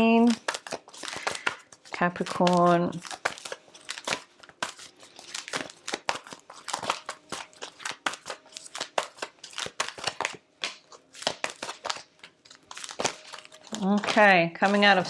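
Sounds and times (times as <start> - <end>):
cards being shuffled: 0.0 - 15.0.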